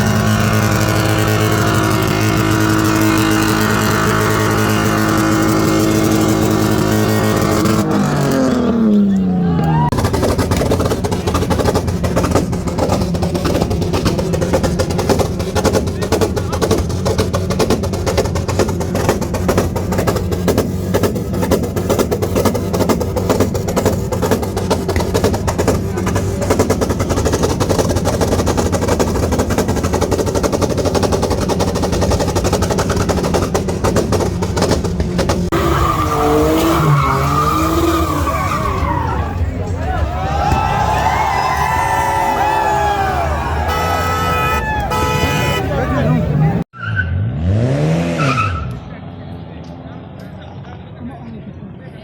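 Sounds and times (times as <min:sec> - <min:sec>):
car engine running loudly: 0:00.0 - 0:46.7.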